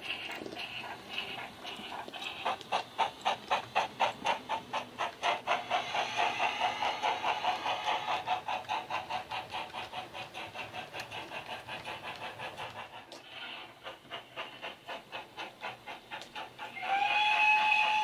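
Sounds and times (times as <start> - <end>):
model steam locomotive chuffs: 0.0 - 18.0
steam hiss: 0.0 - 18.0.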